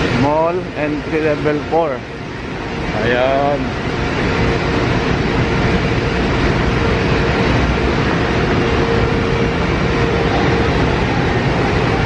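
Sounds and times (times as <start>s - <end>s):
constant hum: 0.0s - 12.0s
loud rumbling: 0.0s - 12.0s.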